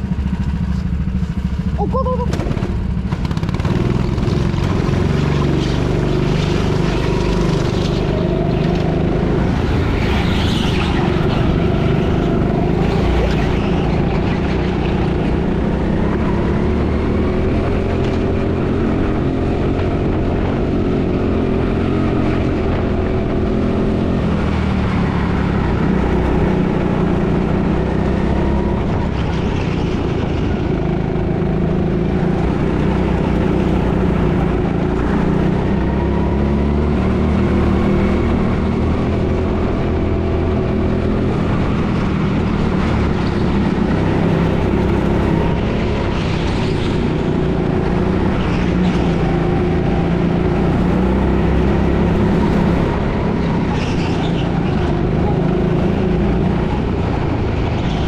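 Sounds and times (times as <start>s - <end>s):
go-kart motor running: 0.0s - 58.0s.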